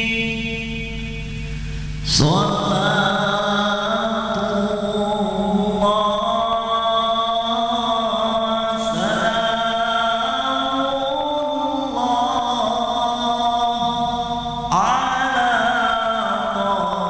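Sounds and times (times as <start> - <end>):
man singing devotional chant: 0.0 - 1.4, 2.0 - 17.0.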